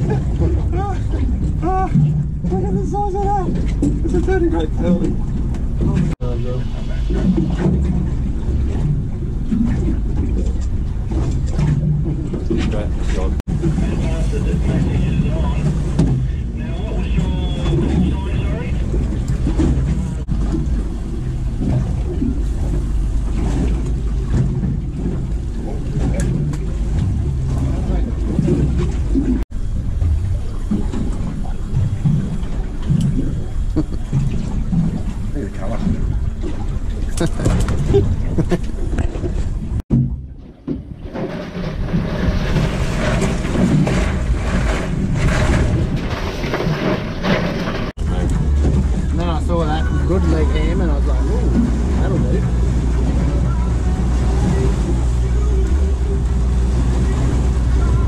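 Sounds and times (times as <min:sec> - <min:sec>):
outboard motor idling: 0:00.0 - 0:58.0
sea water washing against hull: 0:00.0 - 0:58.0
wind buffeting microphone: 0:00.0 - 0:58.0.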